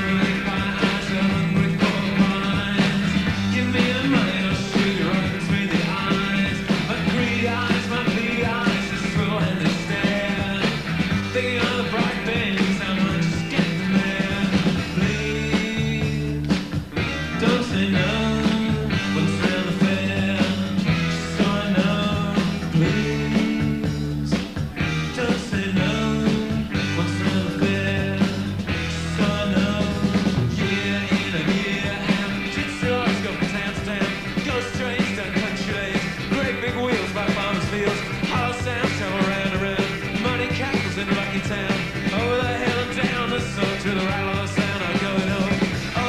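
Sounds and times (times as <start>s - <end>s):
bass line: 0.0s - 46.0s
drums keeping time: 0.0s - 46.0s
electric guitars: 0.0s - 46.0s.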